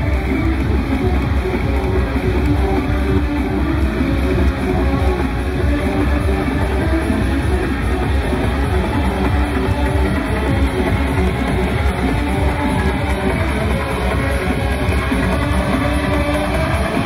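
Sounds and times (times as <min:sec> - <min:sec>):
distorted hardcore techno: 0:00.0 - 0:17.0.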